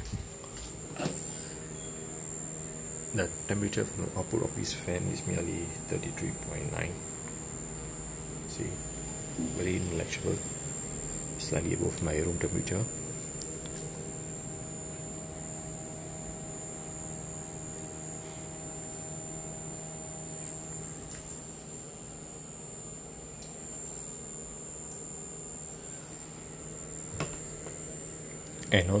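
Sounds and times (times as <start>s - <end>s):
cooling fans humming: 0.0s - 29.0s
high-pitched electronic whine: 0.0s - 29.0s.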